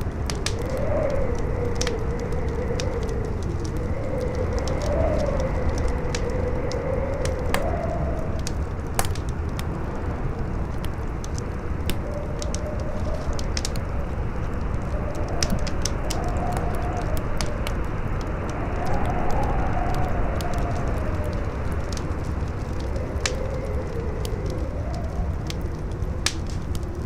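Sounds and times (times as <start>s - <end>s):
campfire crackling and popping: 0.0s - 27.0s
strong wind howling: 0.0s - 27.0s.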